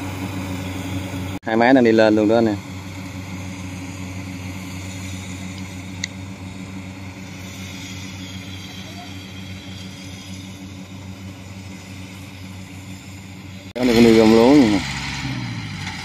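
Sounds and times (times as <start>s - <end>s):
harvester engine droning: 0.0s - 16.0s.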